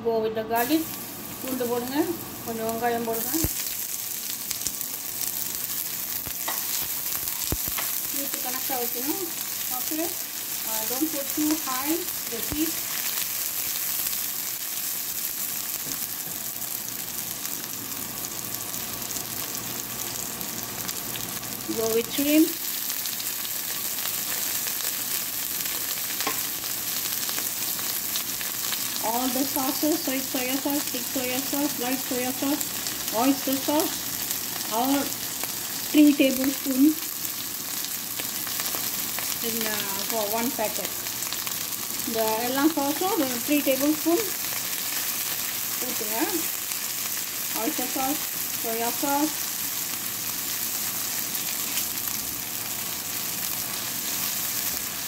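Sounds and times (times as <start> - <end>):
onion and garlic sizzling in oil: 0.0 - 55.0.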